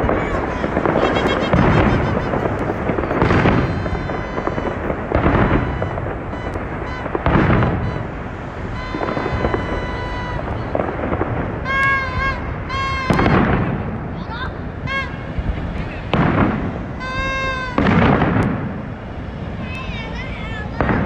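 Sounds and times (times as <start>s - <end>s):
fireworks booming: 0.0s - 21.0s
fireworks crackling: 0.0s - 21.0s.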